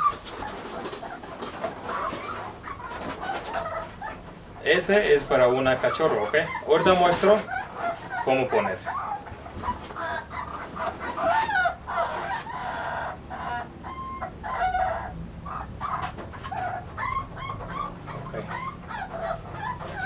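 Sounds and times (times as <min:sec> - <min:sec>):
puppies whining and squealing: 0:00.0 - 0:20.0.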